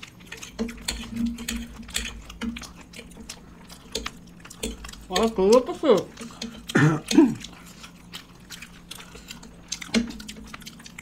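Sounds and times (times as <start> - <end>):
utensils on plates: 0.0 - 10.6
chewing sounds: 0.0 - 11.0
faint low hum: 0.0 - 11.0.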